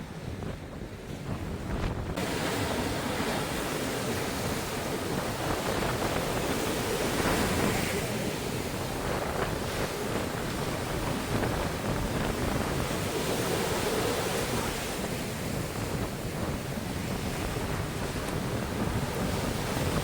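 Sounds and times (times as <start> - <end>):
sea surf washing onto beach: 0.0 - 20.0
wind buffeting microphone: 0.0 - 20.0.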